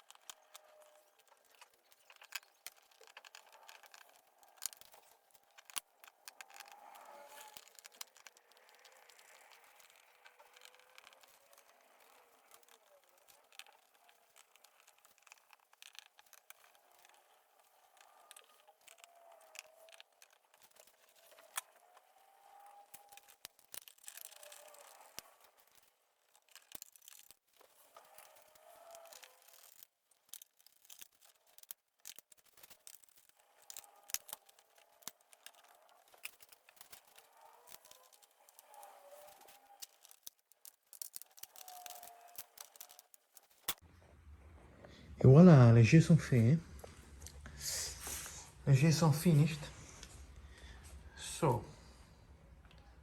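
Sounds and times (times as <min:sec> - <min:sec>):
plastic parts clicking and rattling: 0:00.0 - 0:44.0.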